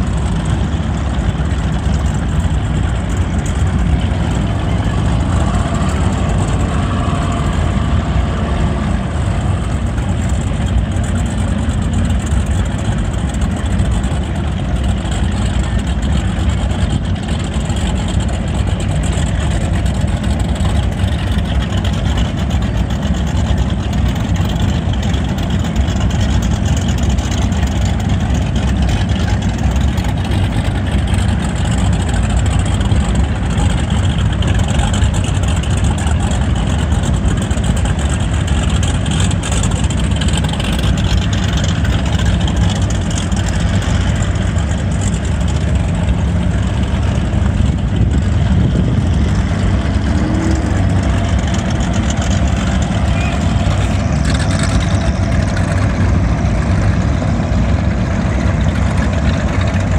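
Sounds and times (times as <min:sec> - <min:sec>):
motorboat engine droning: 0:00.0 - 0:59.9
water noise: 0:00.0 - 0:59.9
wind: 0:00.0 - 0:59.9.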